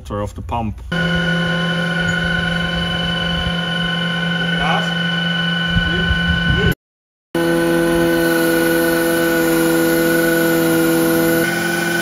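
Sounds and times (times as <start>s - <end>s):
hydraulic pump whine: 0.9s - 6.8s, 7.4s - 12.0s.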